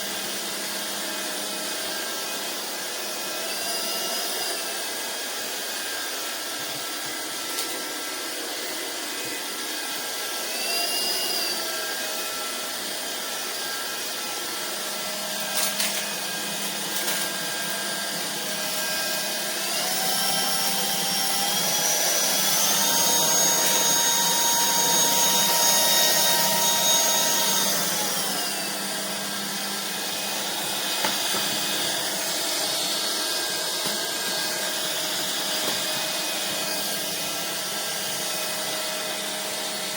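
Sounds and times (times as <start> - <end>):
vacuum motor whine: 0.0 - 39.9.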